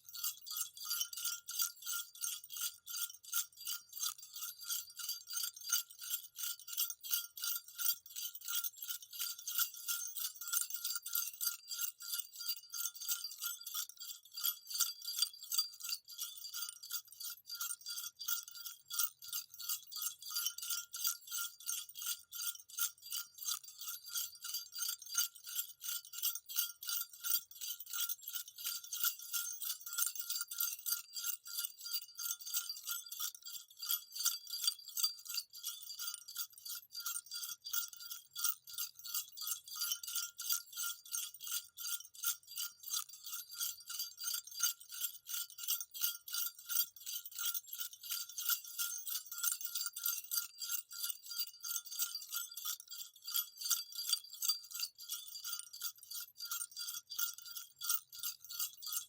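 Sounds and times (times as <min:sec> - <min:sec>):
jingle bells shaken: 0:00.0 - 0:59.0.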